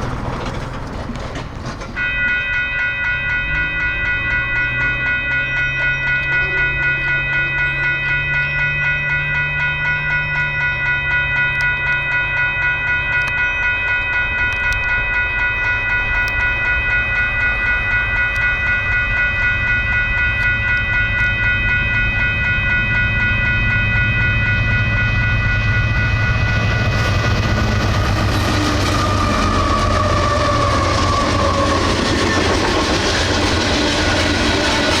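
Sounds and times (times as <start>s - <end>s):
freight train rumble: 0.0s - 35.0s
railroad crossing bell ringing: 0.0s - 35.0s.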